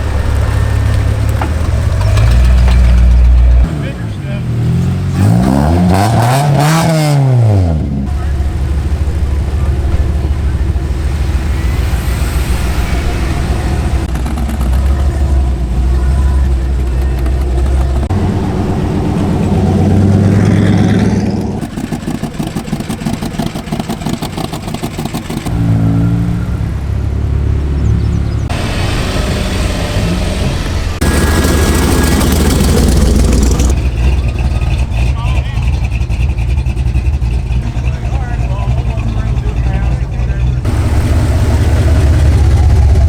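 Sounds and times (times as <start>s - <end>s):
car engines running loudly: 0.0s - 43.0s.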